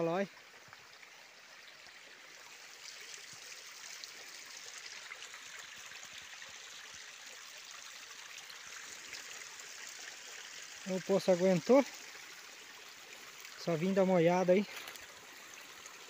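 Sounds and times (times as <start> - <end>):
forest stream running: 0.0 - 16.0.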